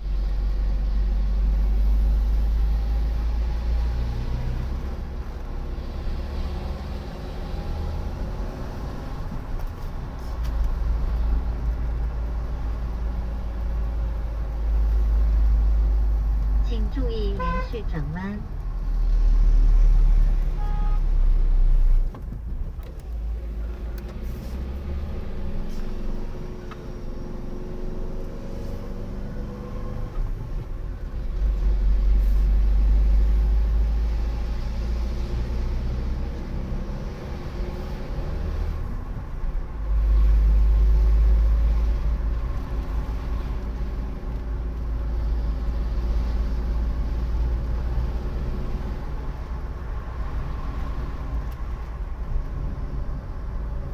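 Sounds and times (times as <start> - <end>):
road noise: 0.0 - 53.9
vehicle engine: 0.0 - 53.9.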